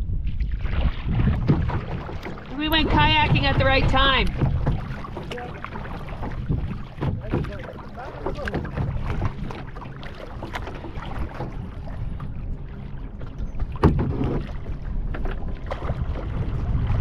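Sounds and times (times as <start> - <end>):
wind on microphone: 0.0 - 17.0
paddle splashing in water: 0.1 - 17.0.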